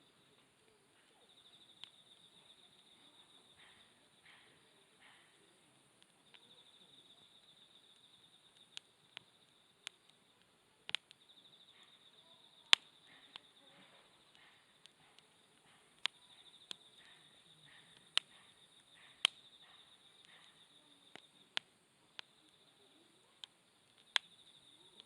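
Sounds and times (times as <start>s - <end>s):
campfire crackling and popping: 0.0s - 25.0s
crickets trilling: 0.0s - 25.0s.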